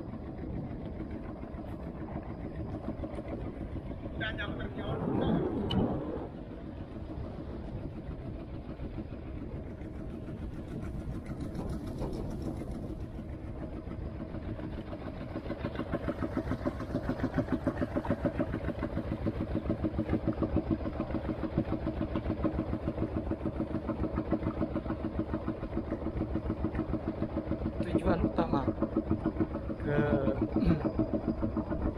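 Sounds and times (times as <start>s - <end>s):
diesel boat engine chugging: 0.0s - 31.9s.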